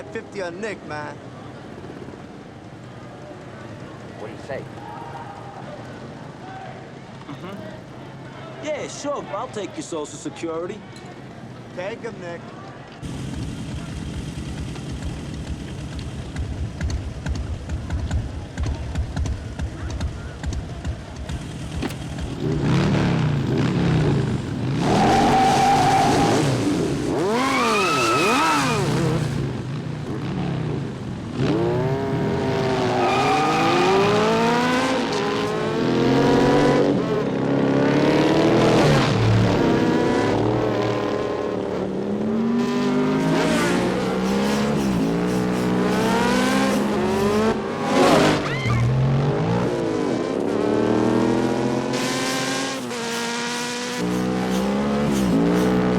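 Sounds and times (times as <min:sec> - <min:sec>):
motorcycle engines racing: 0:00.0 - 0:55.9.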